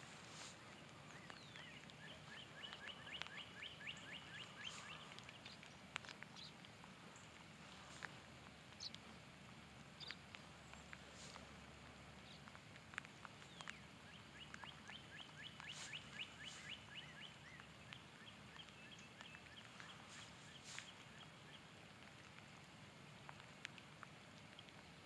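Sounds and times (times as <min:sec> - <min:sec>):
songbird chirping: 0:00.0 - 0:24.9
light rain pattering: 0:00.0 - 0:25.0
raindrop ticks: 0:00.0 - 0:25.0.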